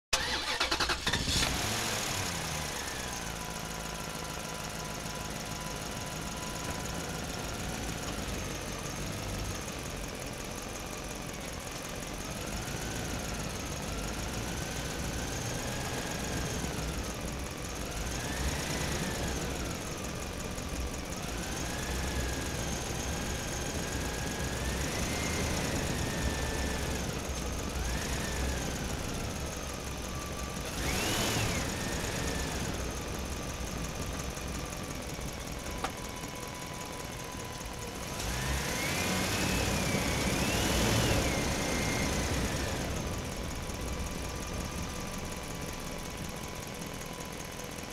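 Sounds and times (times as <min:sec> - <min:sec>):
truck engine accelerating: 0:00.2 - 0:47.9.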